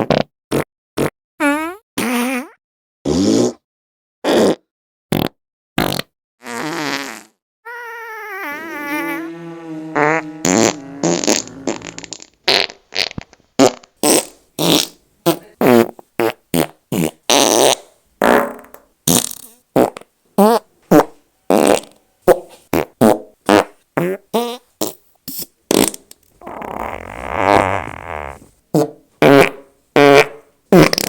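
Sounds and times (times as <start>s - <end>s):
fart sound effects: 0.0s - 3.6s, 4.2s - 25.0s, 25.7s - 31.0s.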